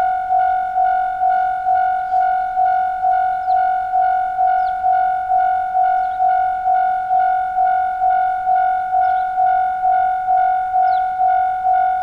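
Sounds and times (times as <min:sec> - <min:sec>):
level crossing warning bell ringing: 0:00.0 - 0:12.0.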